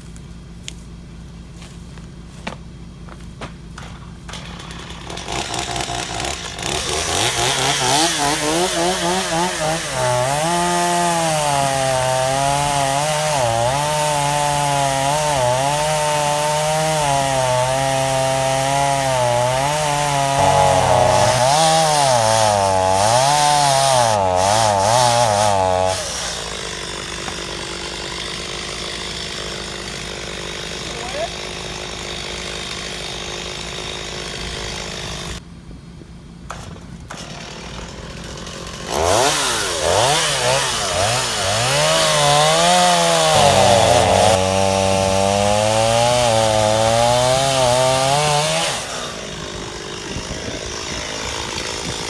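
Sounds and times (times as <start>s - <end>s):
chainsaw cutting wood: 3.7s - 35.4s, 36.5s - 52.0s.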